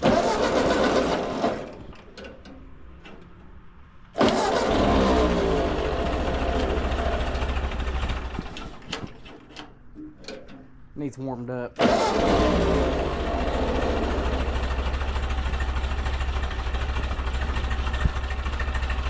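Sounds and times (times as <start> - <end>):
tractor engine revving and idling: 0.0 - 9.4, 11.8 - 19.0.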